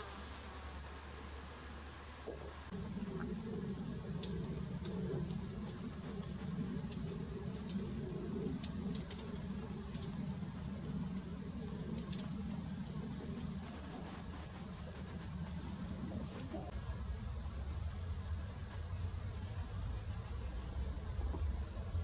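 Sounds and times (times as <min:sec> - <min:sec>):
steady low rumble: 0:01.2 - 0:22.0.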